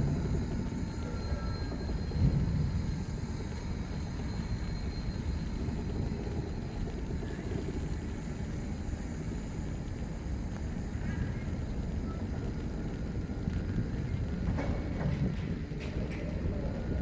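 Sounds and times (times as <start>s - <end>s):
railway cars rumbling: 0.0s - 17.0s.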